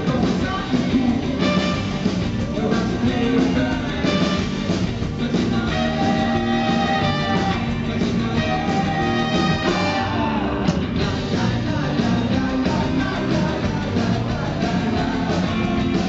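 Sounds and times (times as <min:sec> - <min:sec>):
bass guitar: 0:00.0 - 0:16.0
drums: 0:00.0 - 0:16.0
electric guitars: 0:00.0 - 0:16.0
lead vocal singing: 0:00.0 - 0:16.0.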